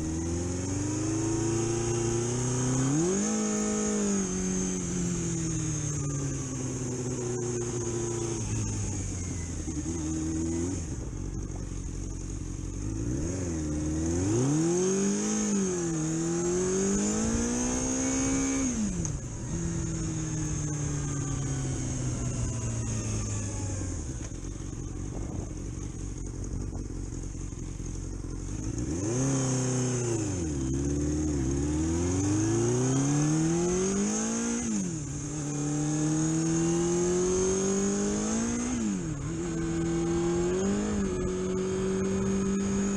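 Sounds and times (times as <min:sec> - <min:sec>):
vehicle engine accelerating: 0:00.0 - 0:42.9.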